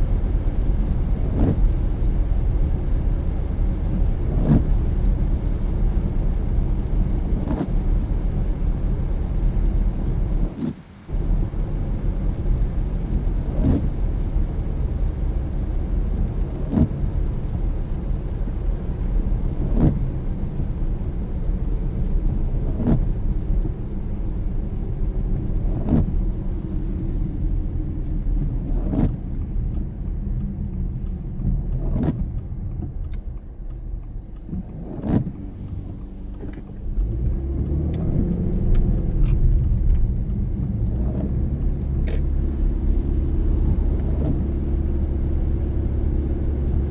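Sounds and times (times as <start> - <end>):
car driving on wet road: 0.0 - 46.9
windshield wiper stroke: 0.1 - 20.5, 22.5 - 23.7, 25.6 - 26.2, 28.0 - 46.9.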